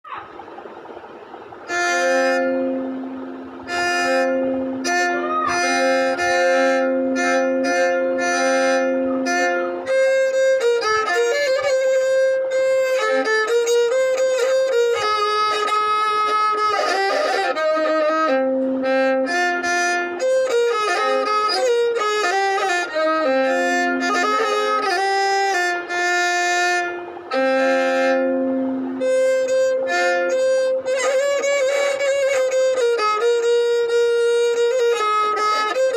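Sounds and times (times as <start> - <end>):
held drone note: 0.0 - 35.9
violin melody: 0.3 - 35.9.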